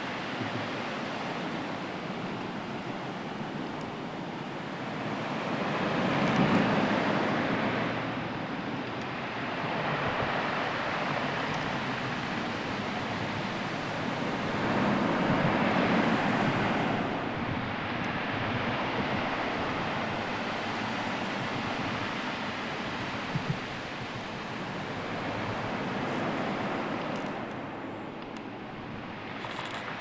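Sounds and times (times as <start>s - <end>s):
sea waves washing onto shore: 0.0s - 30.0s.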